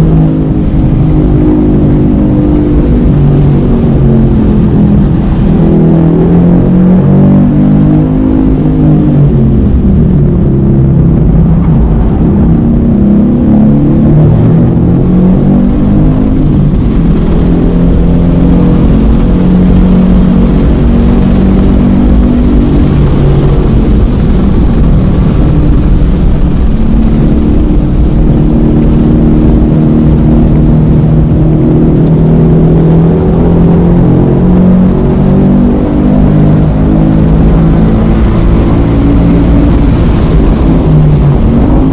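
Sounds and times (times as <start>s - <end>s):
car engine running hard: 0.0s - 41.9s
wind noise: 0.0s - 41.9s.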